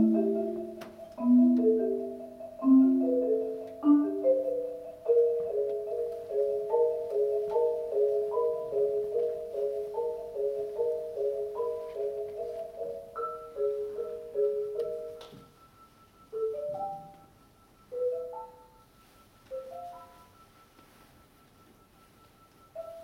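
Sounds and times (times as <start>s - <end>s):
marimba played with mallets: 0.0s - 21.0s, 21.7s - 23.0s.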